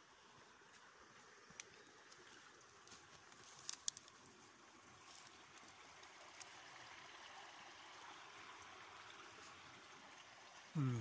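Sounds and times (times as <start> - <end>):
faint trickle of creek water: 0.0 - 11.0.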